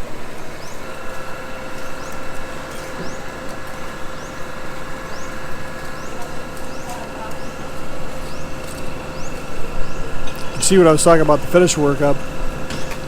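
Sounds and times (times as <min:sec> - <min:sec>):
high whine: 0:00.0 - 0:13.0
truck engine rumbling: 0:00.0 - 0:13.0.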